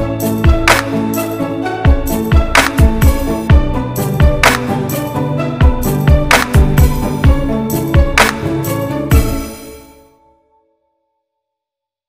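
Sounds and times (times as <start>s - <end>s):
background music with kick drums: 0.0s - 10.0s.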